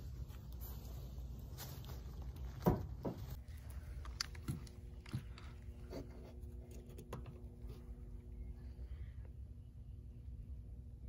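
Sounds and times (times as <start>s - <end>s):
faint steady hum: 0.0s - 11.0s
low steady rumble: 0.0s - 11.0s.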